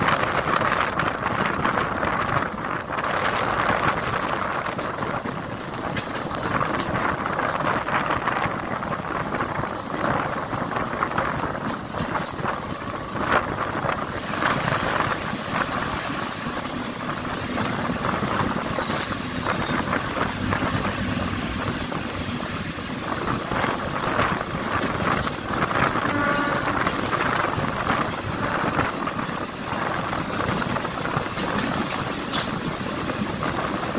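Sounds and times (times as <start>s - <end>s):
passing goods train wheel clatter: 0.0s - 33.9s
train wheels rumbling on rails: 0.0s - 33.9s
wind buffeting microphone: 0.0s - 33.9s.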